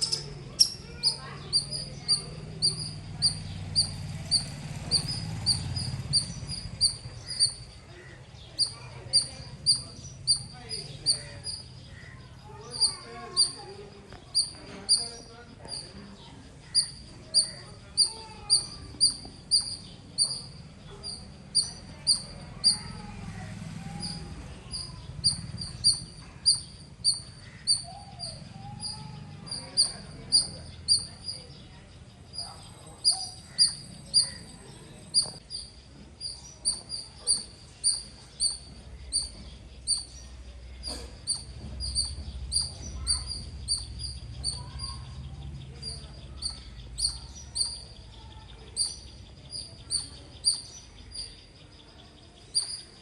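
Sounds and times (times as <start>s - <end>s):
squirrel chirping: 0.0s - 53.0s.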